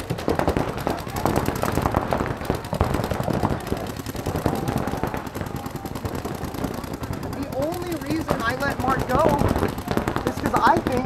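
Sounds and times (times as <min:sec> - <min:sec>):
paintball markers firing rapidly: 0:00.0 - 0:11.0.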